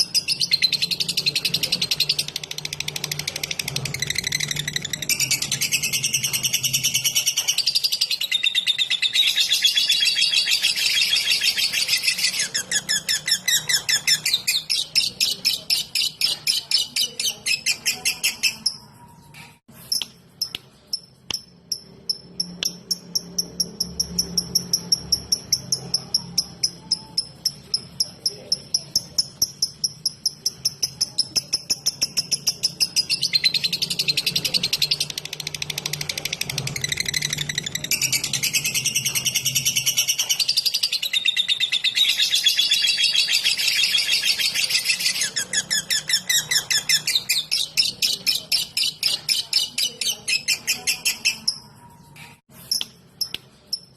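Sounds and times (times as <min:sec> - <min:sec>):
lovebird chirping rapidly: 0:00.0 - 0:53.9.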